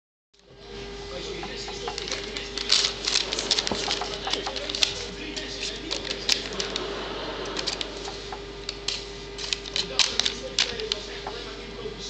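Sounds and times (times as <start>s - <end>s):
faint steady hum: 0.4s - 12.0s
cat clawing at crinkling paper: 1.4s - 11.4s.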